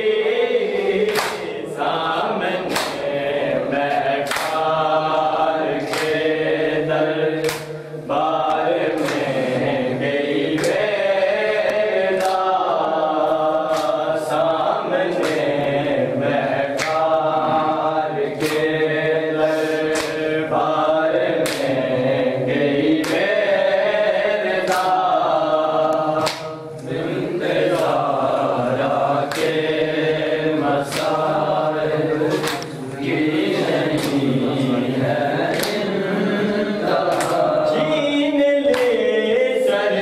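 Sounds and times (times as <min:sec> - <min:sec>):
men chanting a lament: 0:00.0 - 0:40.0.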